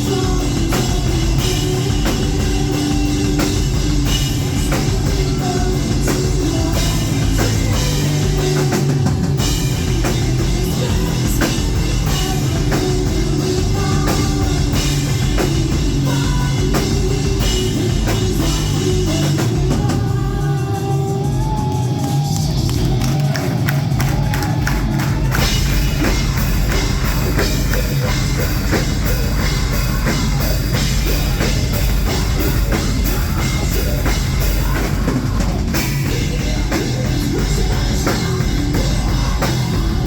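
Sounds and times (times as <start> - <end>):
drum kit driving beat: 0.0 - 40.0
electric guitars: 0.0 - 40.0.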